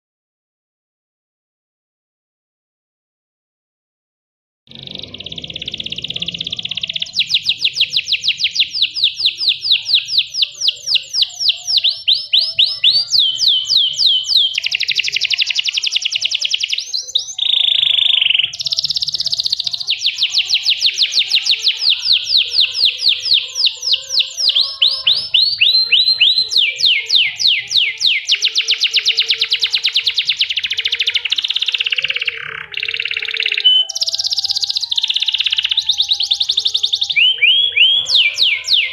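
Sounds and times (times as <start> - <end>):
canary singing trills: 4.7 - 38.9.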